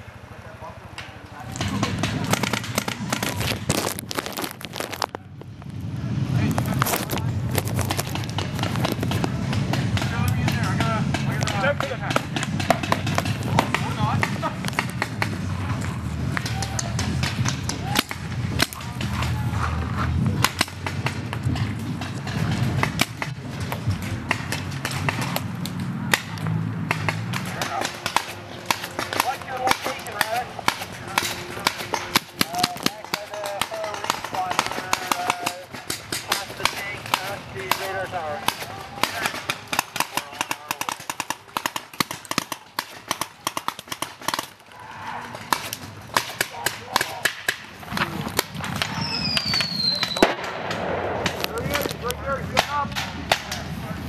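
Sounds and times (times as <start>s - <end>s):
paintball markers firing: 1.4s - 5.7s, 6.5s - 19.4s, 20.2s - 44.7s, 45.4s - 53.7s.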